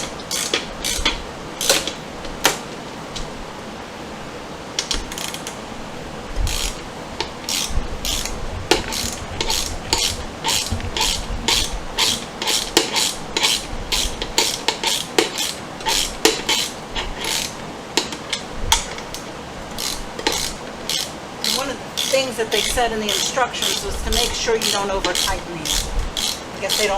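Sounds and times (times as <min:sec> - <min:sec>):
hand ratchet clicking: 0:00.0 - 0:02.6, 0:04.8 - 0:05.6, 0:06.4 - 0:26.9.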